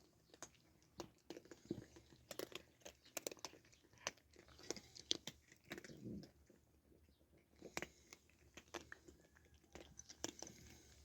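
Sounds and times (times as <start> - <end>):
cats crunching food: 0.0 - 11.0.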